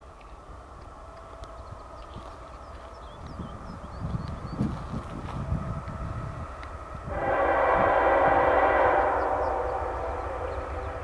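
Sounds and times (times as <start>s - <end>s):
diesel freight train rumble: 0.0s - 11.0s.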